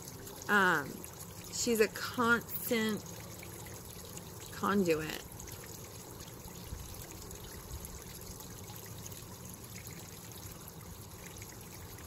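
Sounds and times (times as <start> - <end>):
running water trickling: 0.0 - 12.0.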